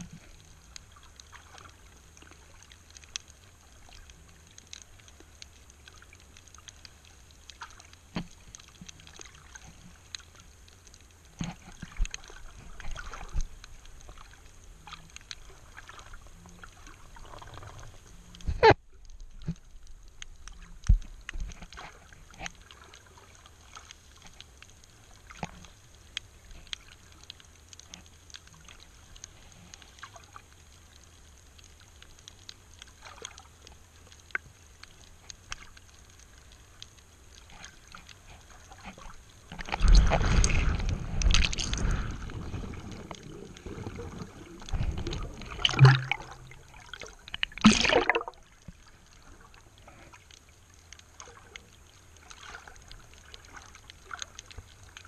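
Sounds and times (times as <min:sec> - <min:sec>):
water rushing and bubbling: 0:00.0 - 0:27.3, 0:37.3 - 0:55.0
faint underwater clicks and crackles: 0:00.0 - 0:55.0.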